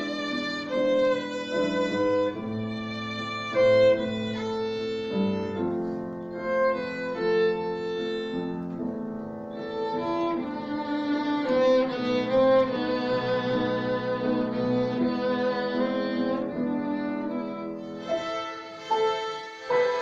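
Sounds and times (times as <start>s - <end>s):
violin ensemble playing melody: 0.0s - 20.0s.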